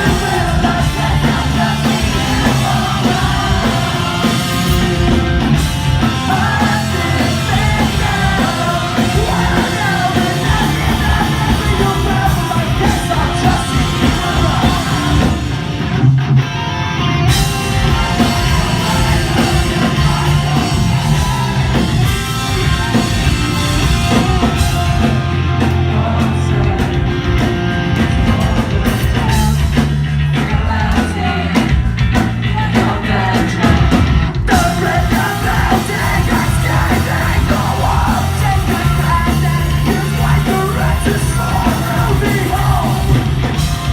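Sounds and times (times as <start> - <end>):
sung and shouted vocals: 0.0 - 15.9, 17.3 - 43.9
bass guitar: 0.0 - 43.9
distorted electric guitars: 0.0 - 43.9
drums: 0.0 - 43.9.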